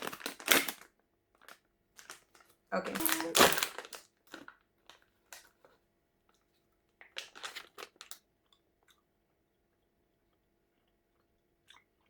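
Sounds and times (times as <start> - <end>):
gummy candy crinkling and crunching: 0.0 - 12.0.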